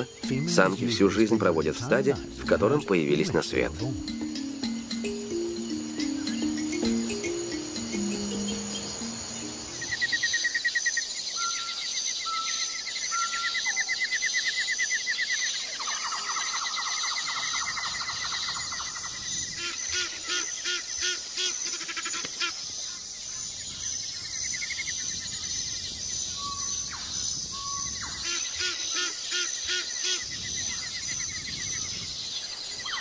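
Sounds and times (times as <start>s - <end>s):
birds calling: 0.0s - 33.0s
high insect trill: 0.0s - 33.0s.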